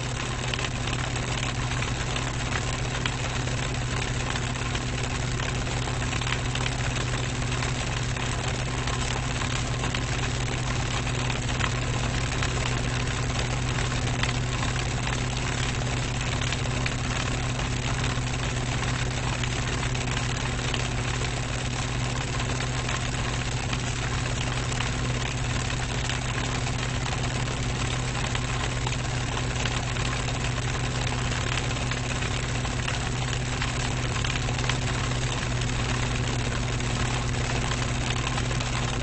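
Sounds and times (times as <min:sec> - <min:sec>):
electric fan running: 0:00.0 - 0:39.0.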